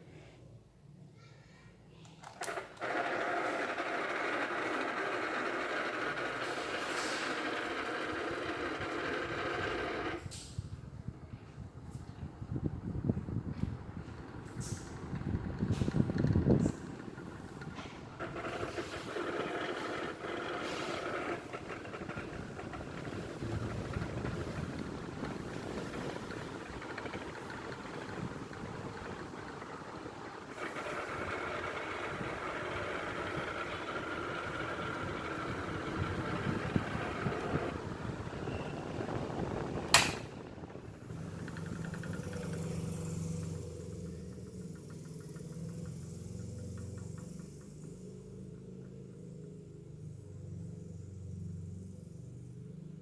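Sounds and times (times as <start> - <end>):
electric fan mechanical noise: 0.0 - 53.0.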